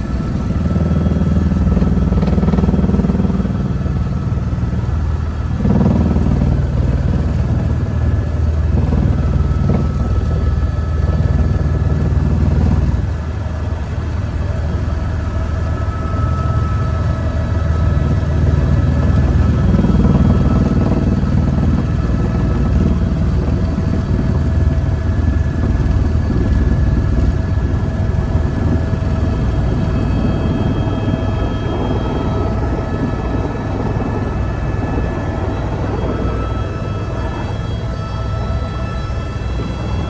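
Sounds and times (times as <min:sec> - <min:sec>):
helicopter engine and rotor: 0:00.0 - 0:40.0.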